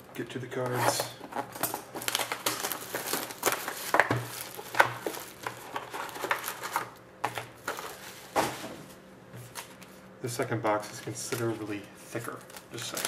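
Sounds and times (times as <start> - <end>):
cardboard and packs crinkling: 0.2 - 8.7, 10.7 - 13.0.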